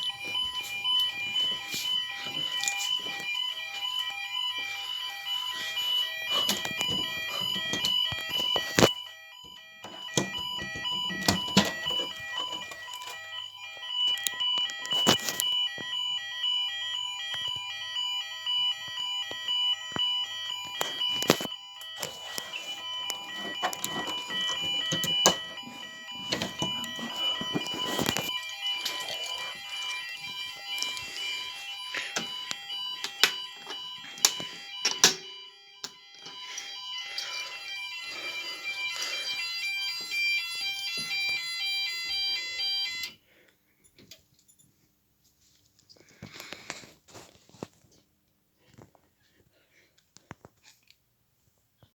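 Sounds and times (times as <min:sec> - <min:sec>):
fire alarm sounders pulsing: 0:00.0 - 0:43.2.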